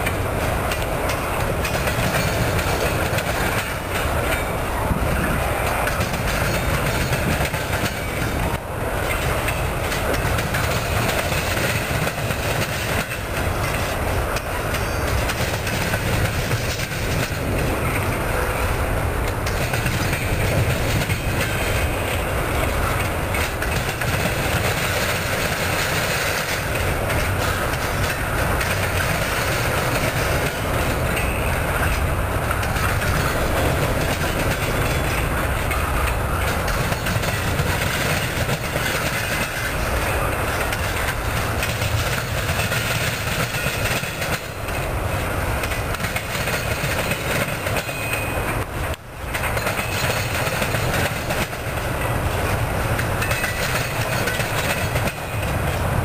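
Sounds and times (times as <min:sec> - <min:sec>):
freight train rumbling past: 0:00.0 - 0:56.0
train wheels clickety-clack: 0:00.0 - 0:56.0.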